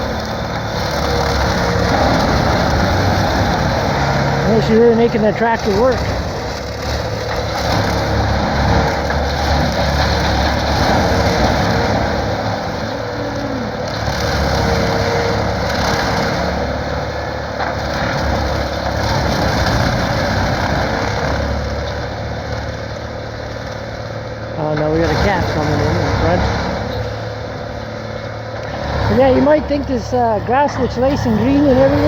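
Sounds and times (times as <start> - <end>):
tractor engine drone: 0.0 - 32.0.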